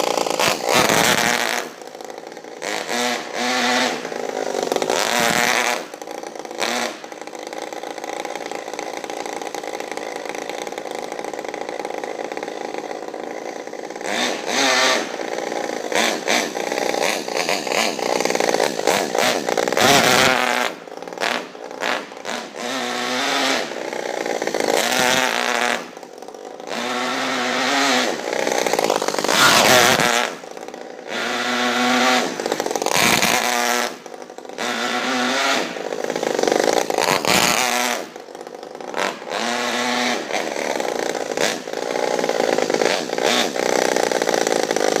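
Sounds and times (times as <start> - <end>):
model engine revving: 0.0 - 45.0.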